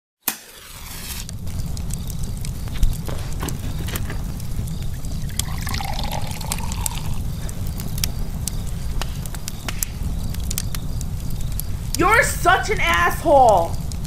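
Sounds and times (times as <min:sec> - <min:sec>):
fire crackling and popping: 0:00.2 - 0:14.0.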